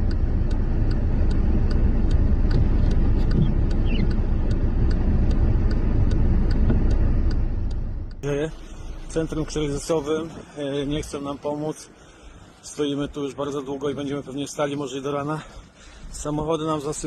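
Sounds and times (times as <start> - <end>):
faint regular ticking: 0.0 - 17.0
road vehicle rumble: 0.0 - 17.0.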